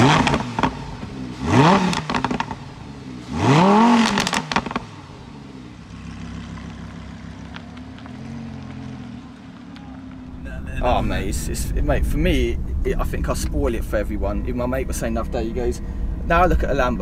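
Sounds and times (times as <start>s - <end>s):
exhaust pops and crackles: 0.0s - 2.8s, 3.5s - 5.0s, 5.8s - 15.2s
car engine idling: 0.0s - 17.0s
sports car engine revving: 0.0s - 17.0s.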